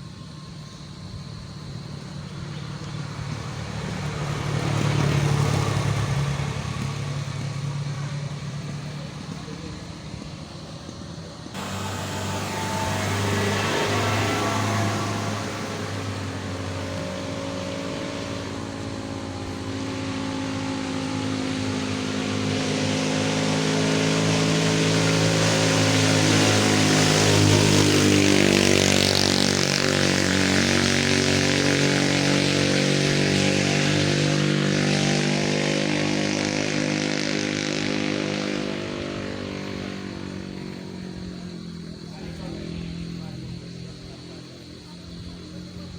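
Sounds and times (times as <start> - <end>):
vehicle engine labouring uphill: 0.0 - 45.9.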